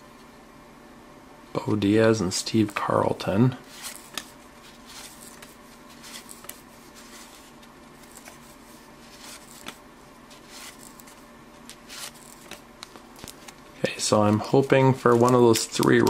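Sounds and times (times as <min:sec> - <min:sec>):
low steady hum: 0:00.0 - 0:16.0
cardboard cards rustling and ticking: 0:02.3 - 0:16.0.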